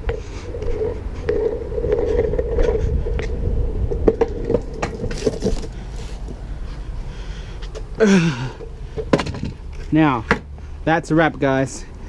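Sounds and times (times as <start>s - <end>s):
longboard wheels rolling on paving: 0.0s - 10.3s.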